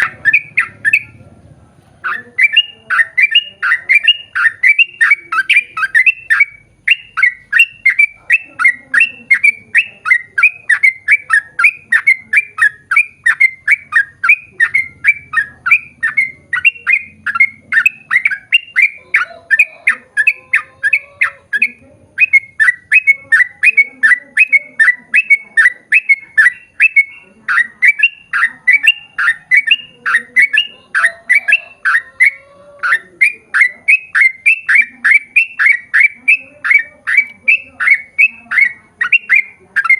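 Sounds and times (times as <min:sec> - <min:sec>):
bulbul singing rapid notes: 0:00.0 - 0:01.4, 0:02.0 - 0:39.9.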